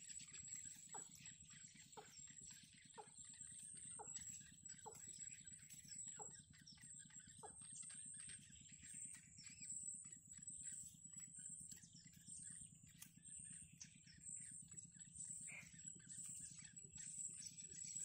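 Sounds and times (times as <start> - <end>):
faint low pulsing hum: 0.0 - 18.0
nestlings chirping: 0.0 - 18.0.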